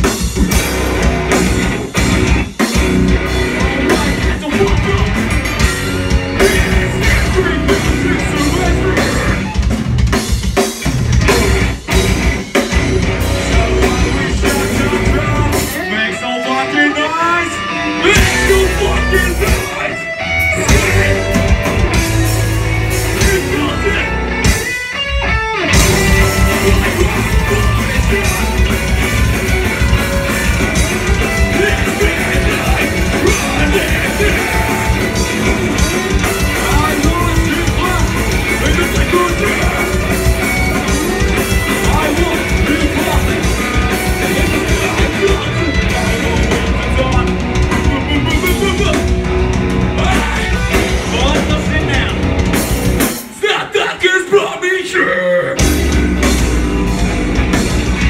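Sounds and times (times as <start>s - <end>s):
drum kit: 0.0s - 16.1s, 17.6s - 54.4s, 55.5s - 58.0s
distorted electric guitars: 0.0s - 58.0s.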